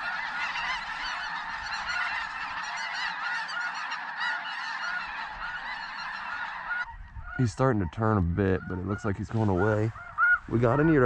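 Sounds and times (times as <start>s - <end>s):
flock of geese honking: 0.0s - 11.0s.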